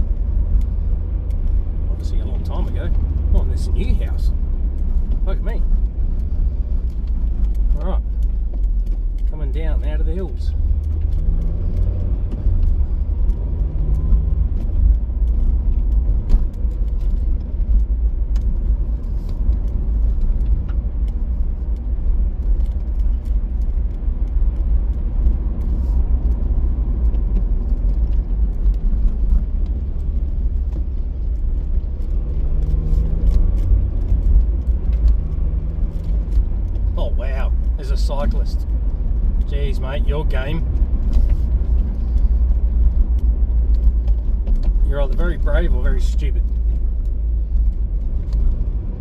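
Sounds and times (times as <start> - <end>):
car driving rumble inside cabin: 0.0 - 49.0.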